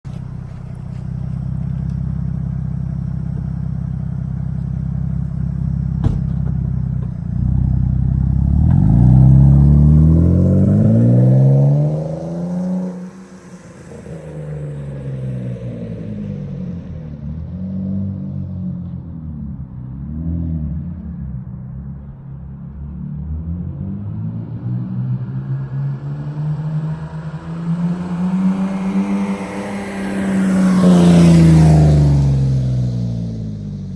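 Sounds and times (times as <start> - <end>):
car exhaust idling and revving: 0.0 - 33.9.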